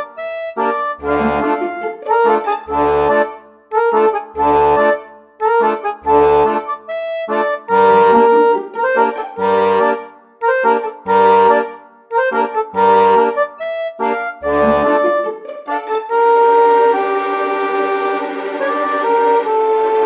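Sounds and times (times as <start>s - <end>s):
instrumental music with bass notes: 0.0s - 20.0s.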